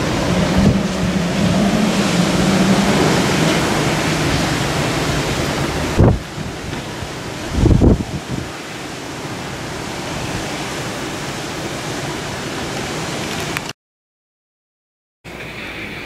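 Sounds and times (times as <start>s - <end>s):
wind on microphone: 0.0s - 13.6s
river rushing: 0.0s - 13.7s.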